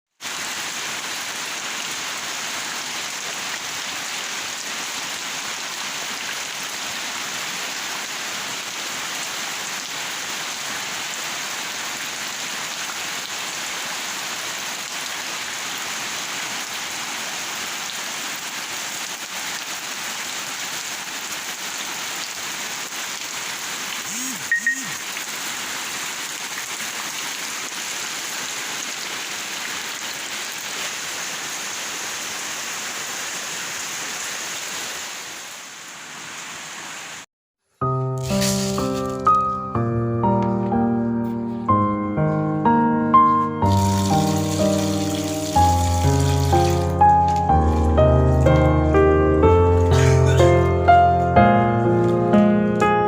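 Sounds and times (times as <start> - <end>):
steady rain falling: 0.1 - 37.3, 43.6 - 52.9.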